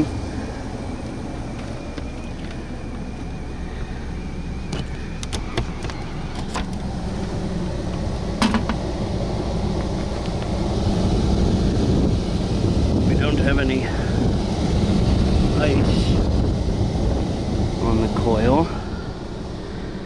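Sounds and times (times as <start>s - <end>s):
air handler blower rumble: 0.0s - 20.0s.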